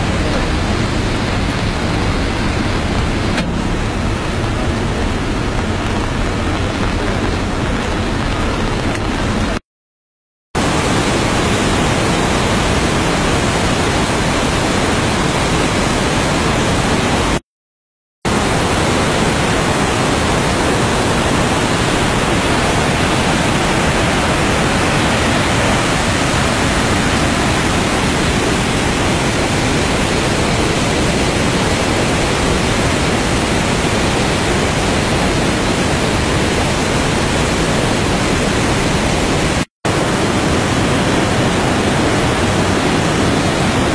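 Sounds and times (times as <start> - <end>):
water rushing down spillway: 0.0 - 9.6, 10.6 - 17.4, 18.3 - 43.9.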